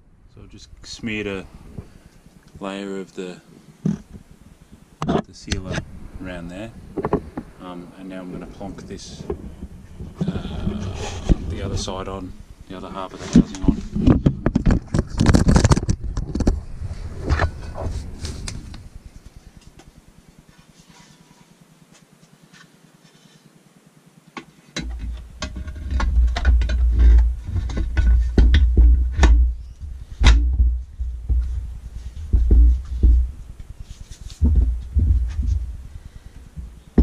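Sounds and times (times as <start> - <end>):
low rumble of handling: 0.0 - 21.9, 24.8 - 37.0.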